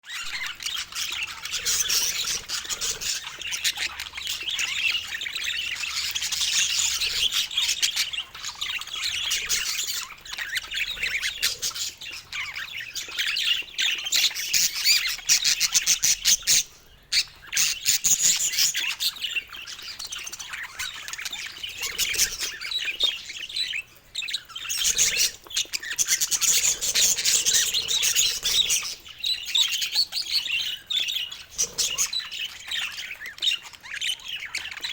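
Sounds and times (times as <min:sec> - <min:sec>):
baby budgerigars chirping: 0:00.0 - 0:34.9.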